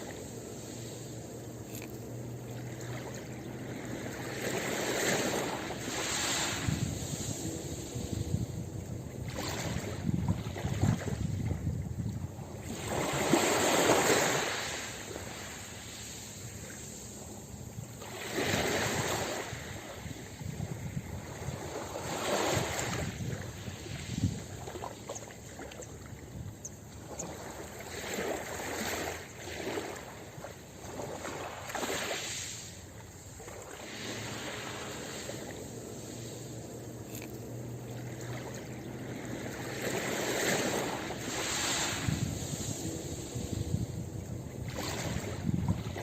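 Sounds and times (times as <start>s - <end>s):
ocean waves breaking on beach: 0.0s - 46.0s.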